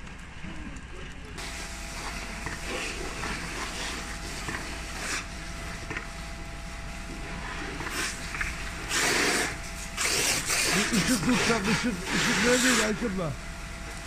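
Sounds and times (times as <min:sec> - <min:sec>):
fire hose water rushing: 0:01.4 - 0:14.0.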